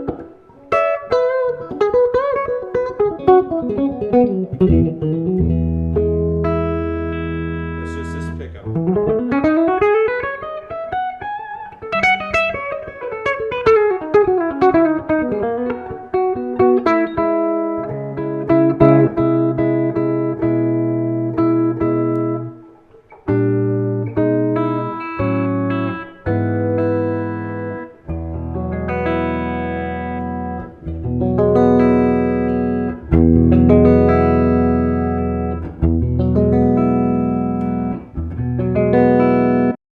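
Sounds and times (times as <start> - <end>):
electric guitar solo: 0.0 - 39.8.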